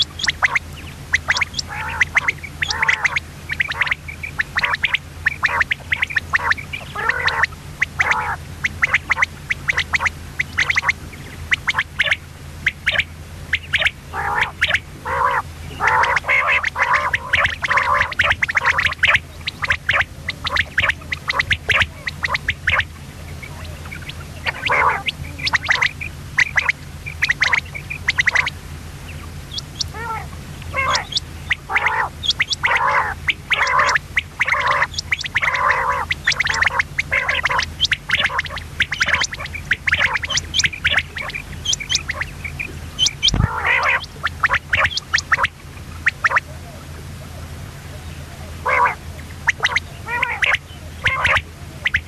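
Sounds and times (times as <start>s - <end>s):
low steady hum: 0.0s - 52.0s
quail calling: 0.0s - 52.0s.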